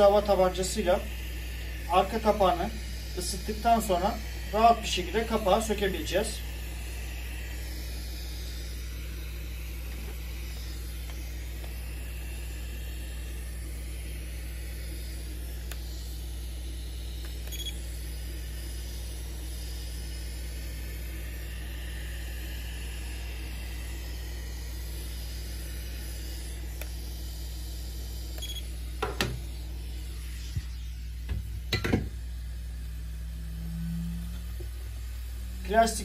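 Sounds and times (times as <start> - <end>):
heat gun blowing: 0.0 - 36.0.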